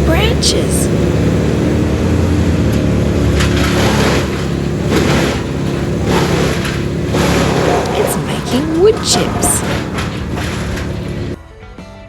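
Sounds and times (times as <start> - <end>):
wood chipper engine droning: 0.0 - 11.4.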